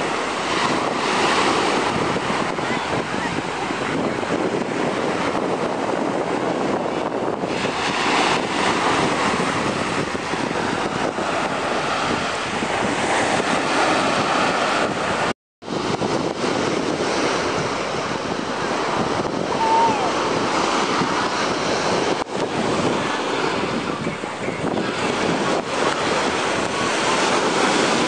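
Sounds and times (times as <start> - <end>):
small waves breaking on beach: 0.0 - 28.0
wind buffeting microphone: 0.0 - 28.0.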